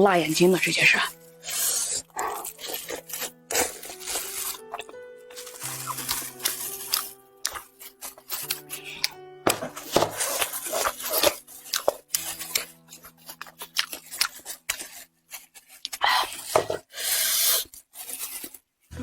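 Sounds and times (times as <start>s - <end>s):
wet chewing and crunching: 0.1s - 18.6s.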